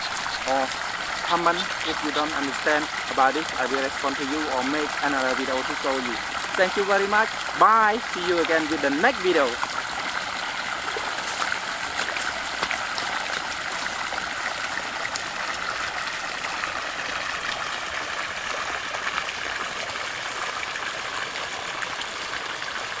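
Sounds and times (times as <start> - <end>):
water rushing from pipe outlets: 0.0 - 23.0
water splashing into standing water: 0.0 - 23.0.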